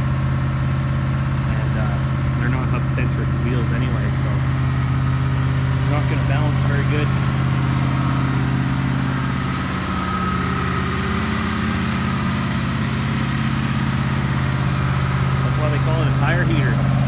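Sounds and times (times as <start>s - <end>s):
engine idling through straight pipes: 0.0s - 17.0s.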